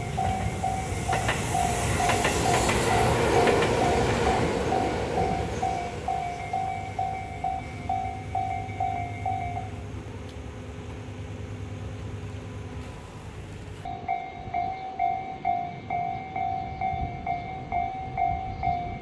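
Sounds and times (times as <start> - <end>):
railway crossing bell ringing: 0.0 - 9.9, 12.8 - 19.0
train rumble and wheel clicks: 0.0 - 19.0.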